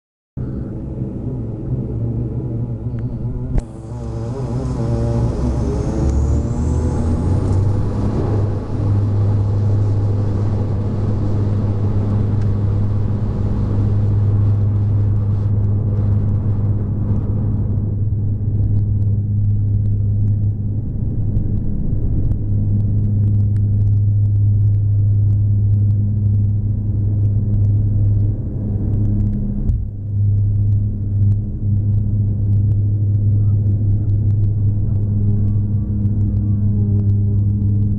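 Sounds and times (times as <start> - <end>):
propeller drone: 0.4 - 37.9
rising engine whine: 0.4 - 37.9
rumble and hiss: 0.4 - 37.9.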